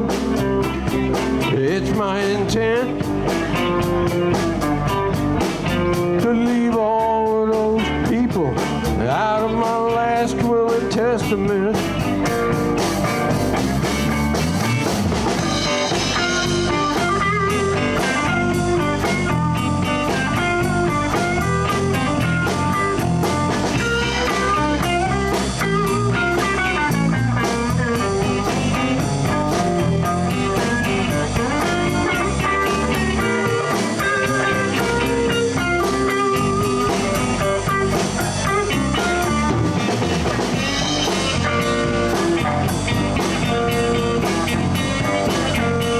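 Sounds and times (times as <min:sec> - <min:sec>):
blues band playing: 0:00.0 - 0:45.9
lead guitar: 0:00.0 - 0:45.9.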